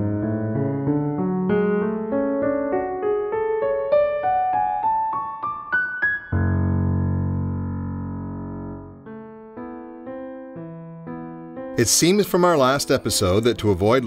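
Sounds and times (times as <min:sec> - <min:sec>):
piano-like keyboard music: 0:00.0 - 0:14.0.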